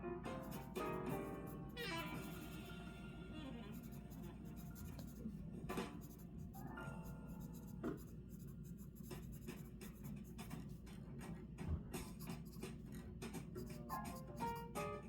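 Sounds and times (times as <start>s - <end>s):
pen scratching on paper: 0.4s - 2.7s, 3.7s - 11.0s, 12.0s - 14.9s.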